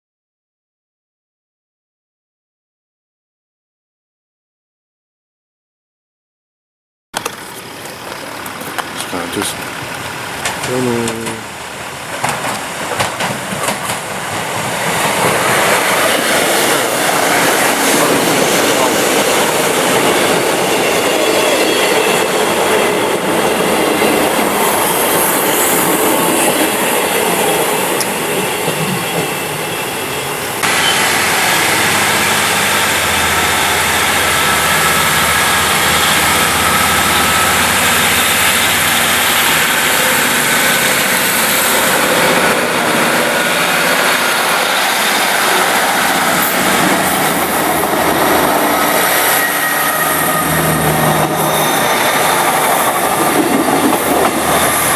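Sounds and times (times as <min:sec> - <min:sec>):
train wheels rushing on rails: 0:07.2 - 0:54.9.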